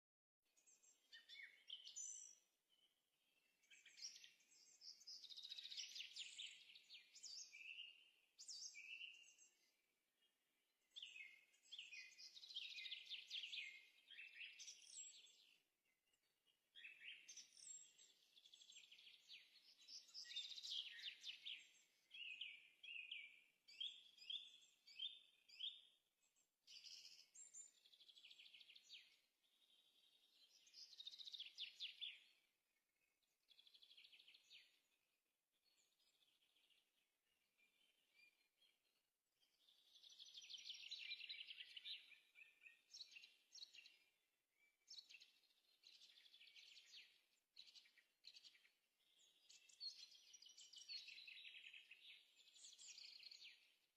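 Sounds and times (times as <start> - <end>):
faint birdsong: 0.4 - 53.9.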